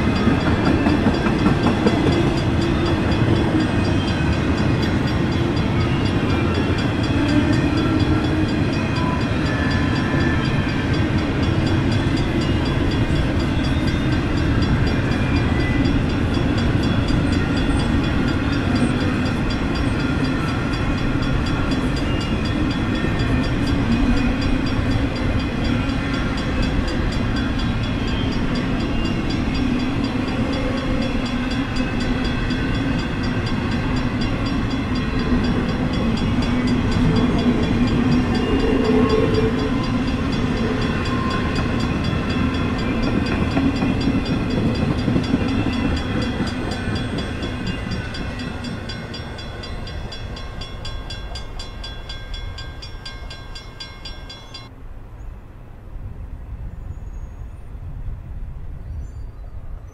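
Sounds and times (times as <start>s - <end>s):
model train rattling on track: 0.0s - 54.6s.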